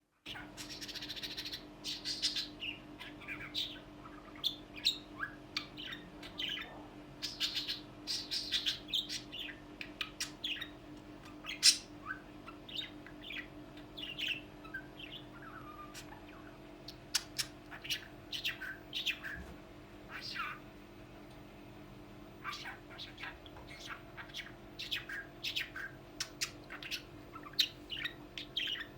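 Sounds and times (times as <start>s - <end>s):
steady low hum: 0.0s - 28.9s
budgerigar chirping and squawking: 0.2s - 19.5s, 20.1s - 20.6s, 22.4s - 28.9s.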